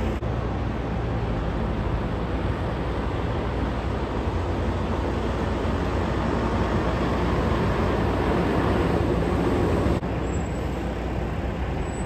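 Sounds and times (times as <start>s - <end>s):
diesel truck engine running: 0.0s - 10.2s.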